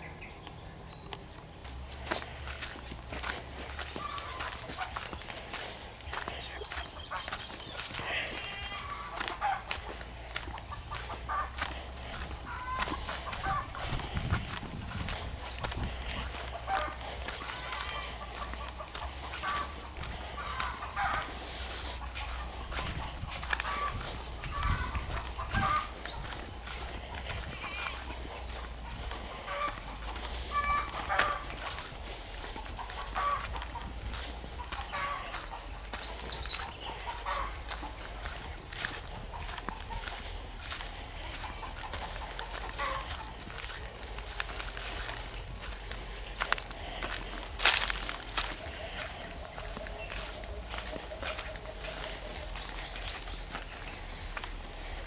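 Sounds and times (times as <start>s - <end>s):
poultry clucking: 0.0s - 55.0s.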